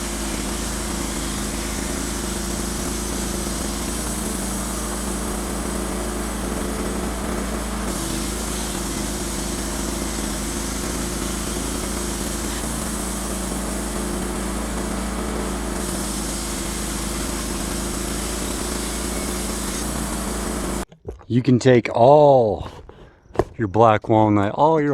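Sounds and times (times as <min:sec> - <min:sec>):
band sawmill running: 0:00.0 - 0:20.8.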